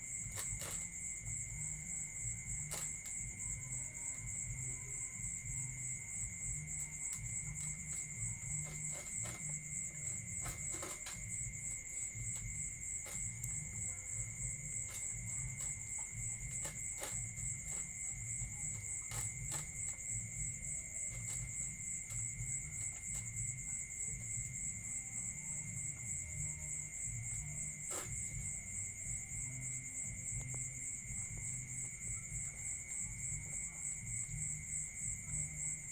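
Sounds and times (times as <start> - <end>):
crickets trilling: 0.0 - 35.9.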